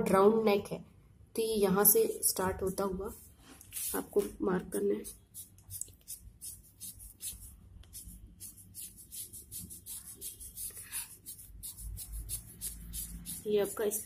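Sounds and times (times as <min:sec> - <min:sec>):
pen scratching on newspaper: 0:02.0 - 0:04.3, 0:05.0 - 0:14.0.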